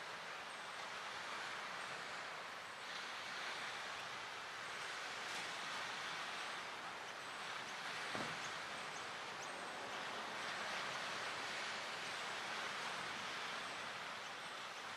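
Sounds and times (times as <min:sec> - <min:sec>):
light wind: 0:00.0 - 0:14.9
water: 0:00.0 - 0:14.9.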